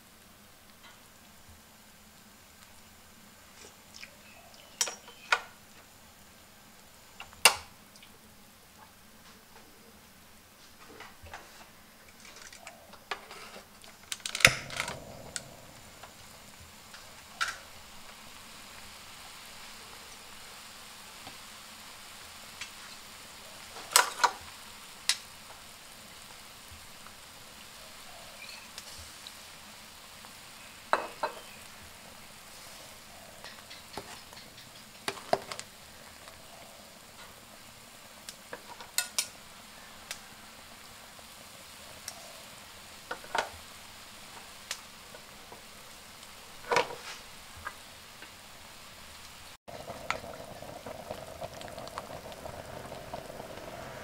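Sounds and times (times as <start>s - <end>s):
soup boiling in a pot: 0.0s - 9.2s, 10.1s - 54.0s.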